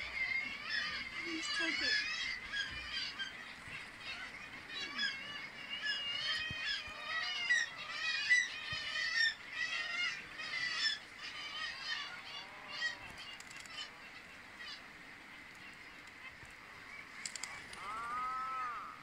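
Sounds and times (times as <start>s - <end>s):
seabirds calling harshly: 0.0s - 15.0s, 15.7s - 19.0s
lower arching bird calls: 0.0s - 19.0s.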